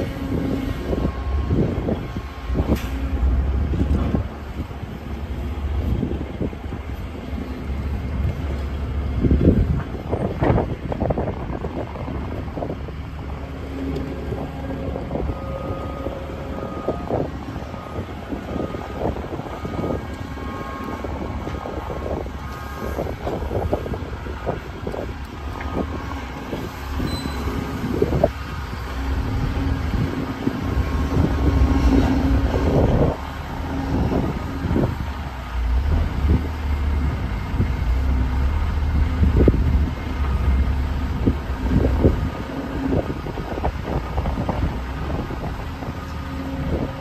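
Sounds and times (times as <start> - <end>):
excavator diesel engine working: 0.0 - 47.0.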